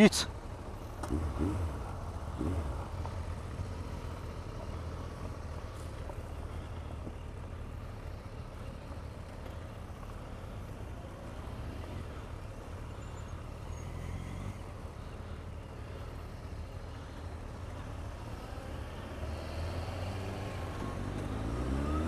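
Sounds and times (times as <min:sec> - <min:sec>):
motorcycle engine rumbling: 0:00.0 - 0:21.8.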